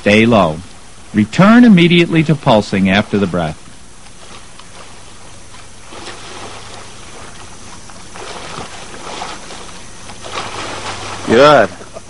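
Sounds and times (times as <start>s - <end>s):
faint steady hum: 0.0s - 12.0s
pool water sloshing and splashing: 0.0s - 12.0s.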